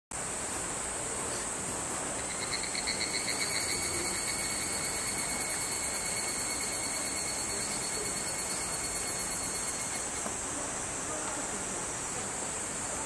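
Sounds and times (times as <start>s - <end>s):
insects buzzing: 0.2s - 13.0s.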